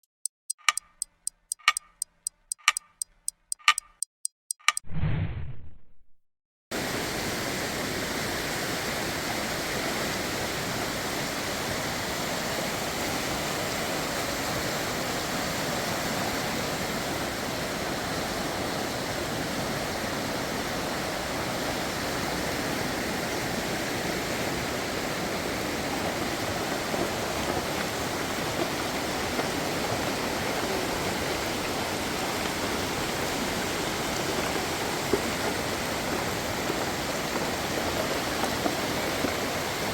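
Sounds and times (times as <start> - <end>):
stream water rushing: 6.8 - 39.9.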